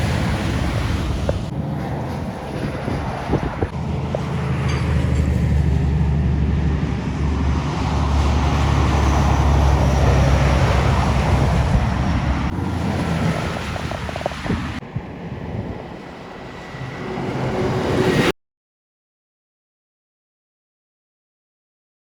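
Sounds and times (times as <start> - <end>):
heavy truck driving past: 0.0 - 18.3
wind buffeting microphone: 0.0 - 18.3.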